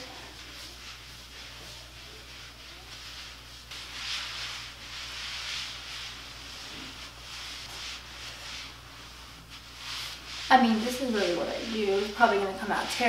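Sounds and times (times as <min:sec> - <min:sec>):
mitt swishing on skin: 0:00.0 - 0:13.0.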